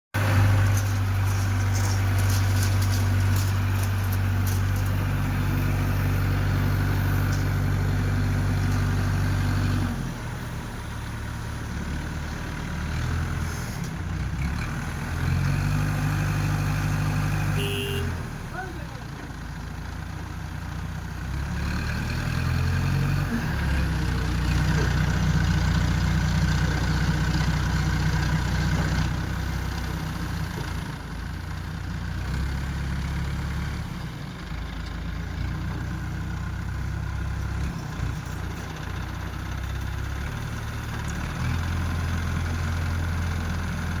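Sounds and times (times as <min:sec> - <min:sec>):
heavy diesel engine running: 0:00.1 - 0:44.0.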